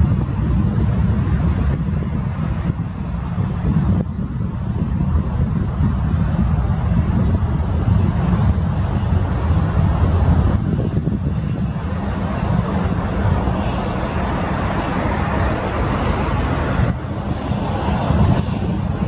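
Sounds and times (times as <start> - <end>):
jet engines roaring at takeoff: 0.0 - 19.0.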